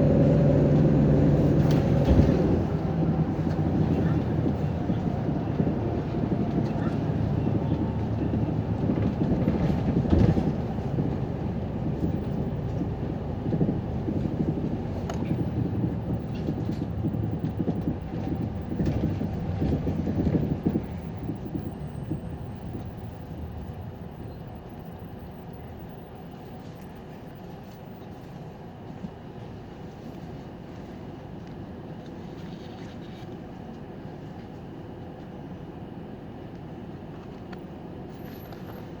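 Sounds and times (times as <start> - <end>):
bus engine and road rumble: 0.0 - 39.0.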